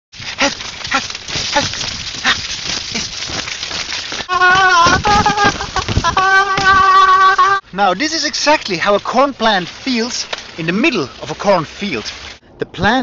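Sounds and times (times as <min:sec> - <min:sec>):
corn stalks rustling: 0:00.1 - 0:12.9.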